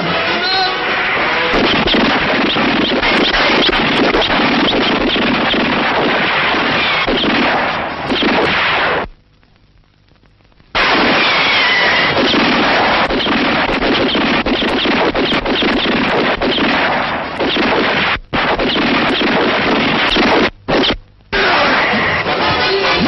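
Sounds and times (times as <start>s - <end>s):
rapid sharp cracks and impacts: 0.8s - 22.4s.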